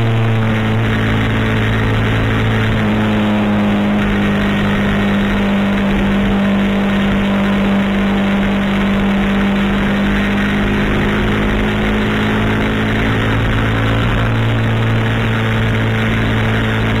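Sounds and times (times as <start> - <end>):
deeper engine note: 0.0 - 17.0
motorcycle engine running: 0.0 - 17.0.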